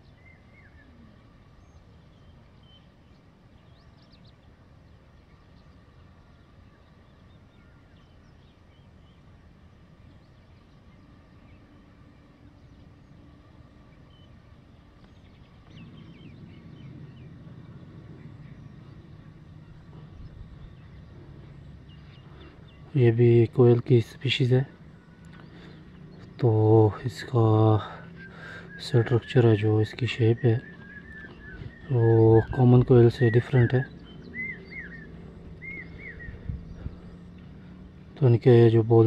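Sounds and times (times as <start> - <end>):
distant bird chirps: 0.0 - 39.0
low steady hum: 0.0 - 39.0.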